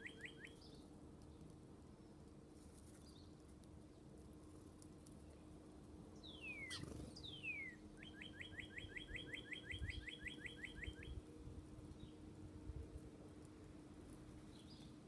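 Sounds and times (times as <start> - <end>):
songbird singing: 0.0 - 2.3, 5.0 - 15.0.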